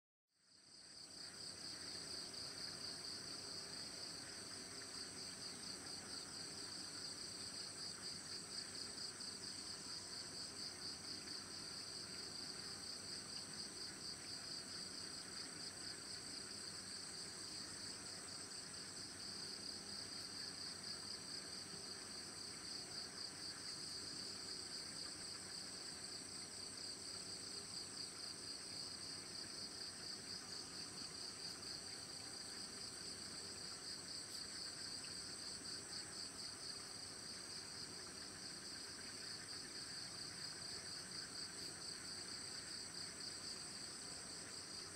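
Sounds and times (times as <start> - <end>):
insects chirping: 0.6 - 44.9.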